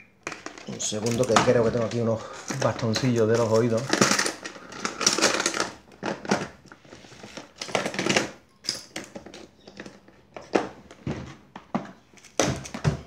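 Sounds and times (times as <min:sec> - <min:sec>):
rummaging through small objects: 0:00.2 - 0:13.0.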